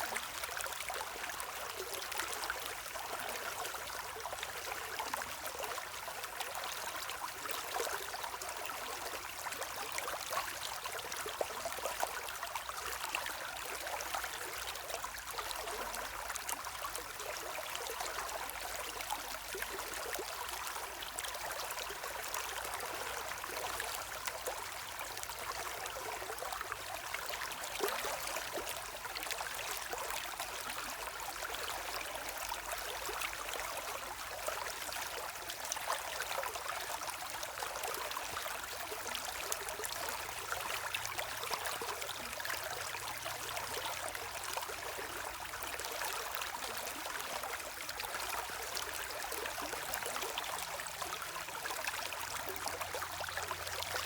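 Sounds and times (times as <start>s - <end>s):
shallow stream running: 0.0s - 54.0s.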